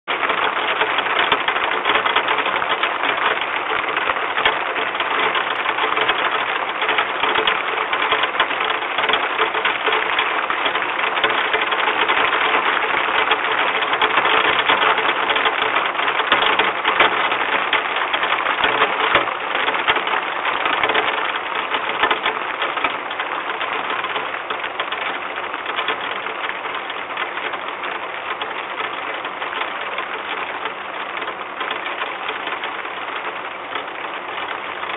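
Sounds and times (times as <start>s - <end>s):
heavy rain pattering on a box: 0.1s - 34.9s.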